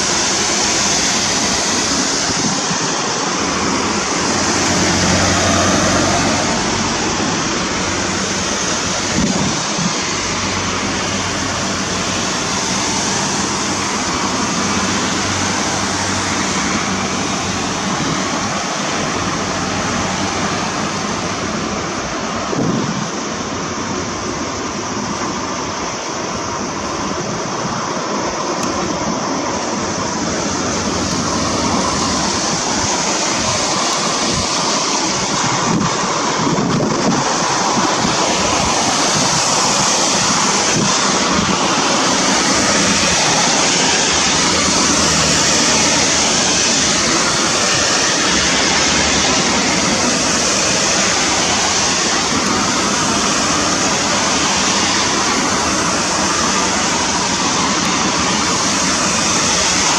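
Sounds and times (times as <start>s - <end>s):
river water rushing: 0.0s - 59.9s
wind: 0.0s - 59.9s.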